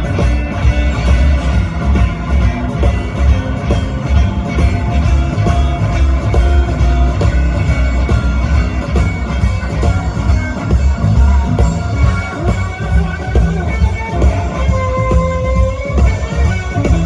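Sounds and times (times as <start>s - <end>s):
blues band playing: 0.0s - 17.0s.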